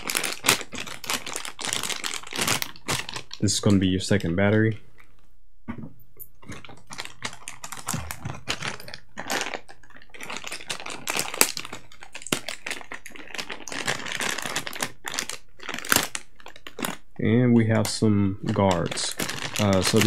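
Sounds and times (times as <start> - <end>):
plastic bag crinkling: 0.0 - 5.2, 6.2 - 20.0.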